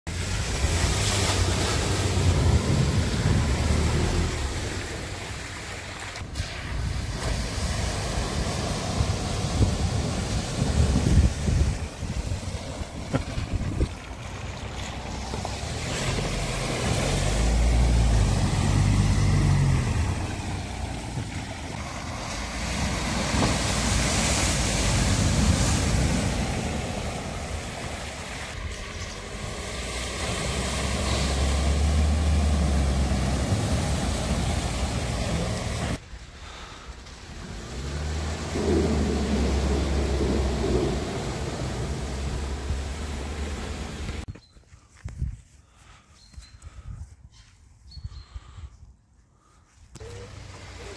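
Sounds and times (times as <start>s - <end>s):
vehicle engines passing: 0.1s - 44.3s, 50.0s - 50.9s
water rushing and splashing: 0.1s - 44.3s, 50.0s - 50.9s.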